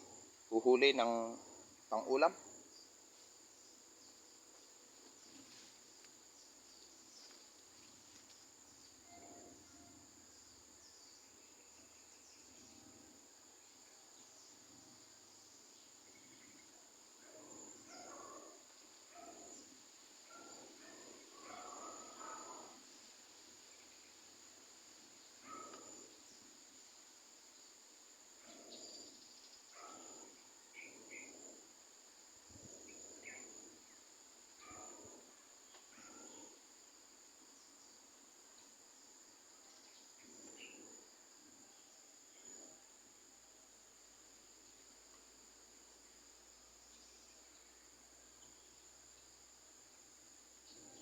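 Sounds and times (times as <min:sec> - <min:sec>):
insect drone: 0:00.0 - 0:51.0.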